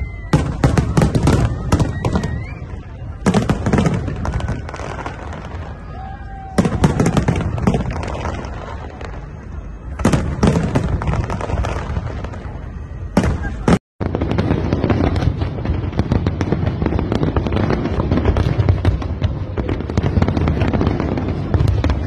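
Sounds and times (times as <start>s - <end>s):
crowd voices: 0.0s - 22.0s
firework bangs: 0.0s - 22.0s.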